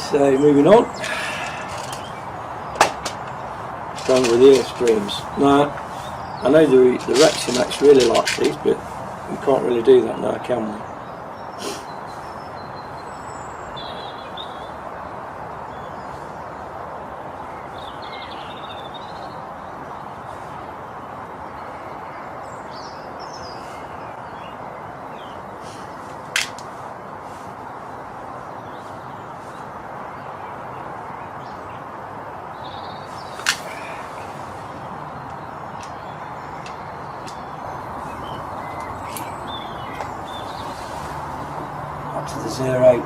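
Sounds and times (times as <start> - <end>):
background noise: 0.0 - 43.0
birds chirping: 0.0 - 43.0.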